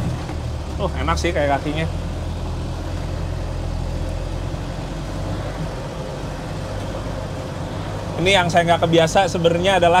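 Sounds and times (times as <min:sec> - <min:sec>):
off-road vehicle engine at low revs: 0:00.0 - 0:10.0.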